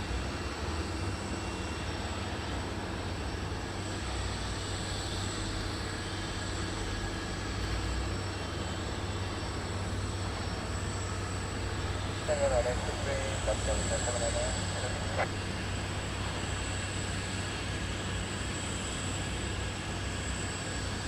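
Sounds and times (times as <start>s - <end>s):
thin steady high whine: 3.1s - 21.0s
jet engines rumbling: 3.6s - 21.0s.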